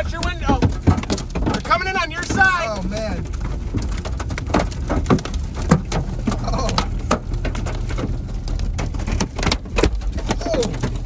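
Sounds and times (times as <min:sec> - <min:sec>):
hailstones pelting a vehicle: 0:00.0 - 0:11.0
low steady rumble: 0:00.0 - 0:11.0.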